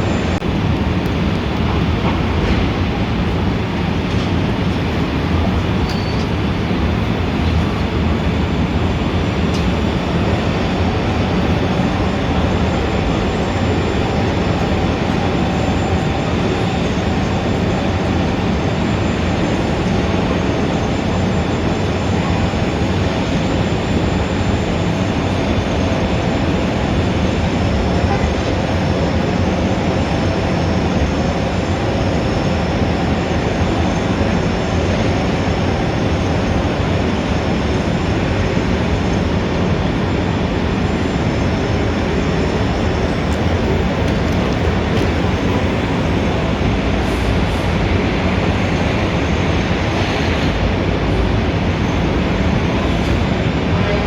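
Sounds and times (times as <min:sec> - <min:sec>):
dense city traffic: 0:00.0 - 0:54.0.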